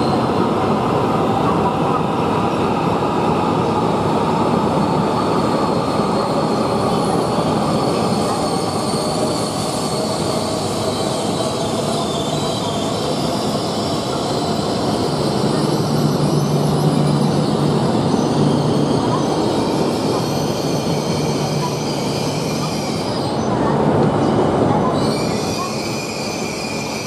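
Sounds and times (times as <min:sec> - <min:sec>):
train rushing past on tracks: 0:00.0 - 0:27.0.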